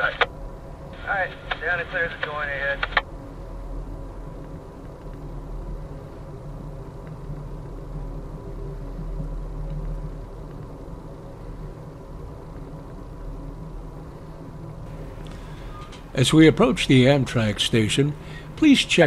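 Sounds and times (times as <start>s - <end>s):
train rumbling: 0.0s - 13.1s, 13.7s - 19.0s.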